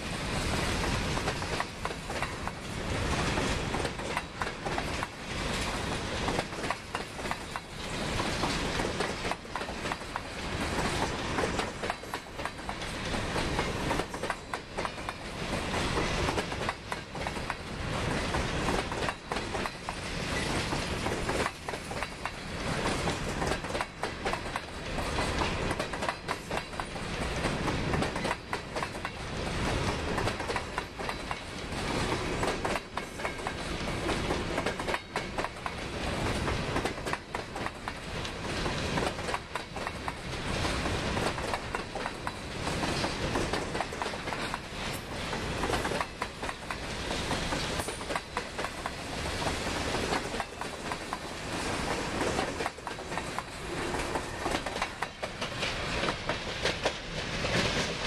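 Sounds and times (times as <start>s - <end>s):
train wheels rumbling on rail: 0.0s - 58.0s
wheels clicking over rail joints: 0.4s - 58.0s.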